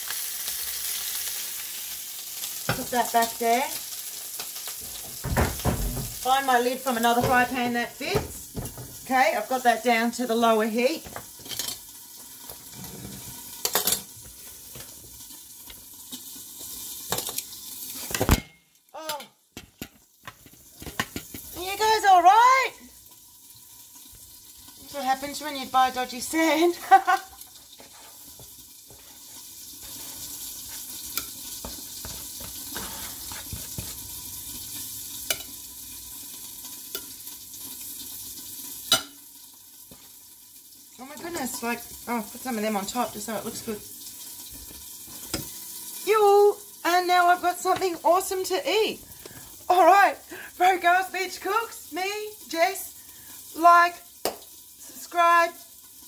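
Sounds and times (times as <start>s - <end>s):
chicken sizzling in a pan: 0.0s - 56.0s.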